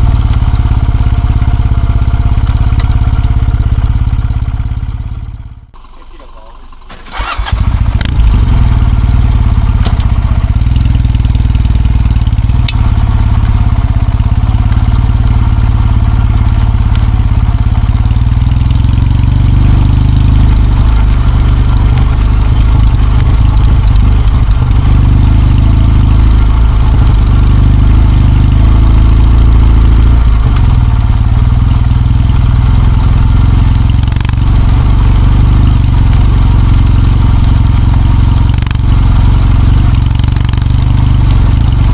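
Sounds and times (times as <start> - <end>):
motorcycle engine rumbling: 0.0 - 41.9.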